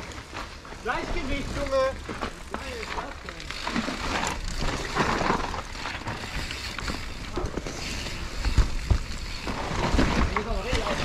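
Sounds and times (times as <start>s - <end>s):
bike rattling over bumps: 0.0s - 11.0s
bike tyres rolling over dirt: 0.0s - 11.0s.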